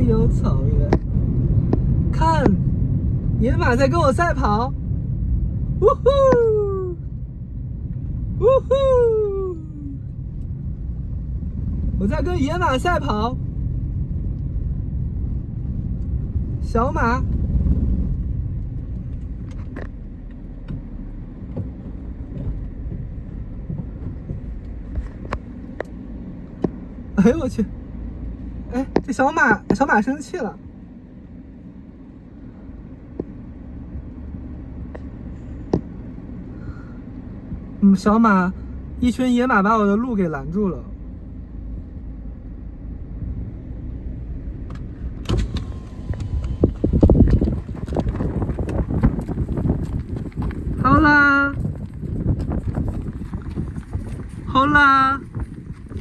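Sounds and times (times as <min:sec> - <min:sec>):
car engine rumbling: 0:00.0 - 0:56.0
outside noise: 0:00.0 - 0:56.0
road noise: 0:00.0 - 0:56.0.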